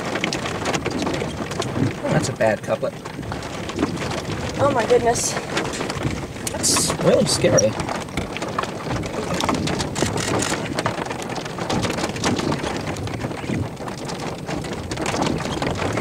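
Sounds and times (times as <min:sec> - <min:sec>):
rain pelting a vehicle: 0:00.0 - 0:16.0
wind gusting across microphone: 0:00.0 - 0:16.0.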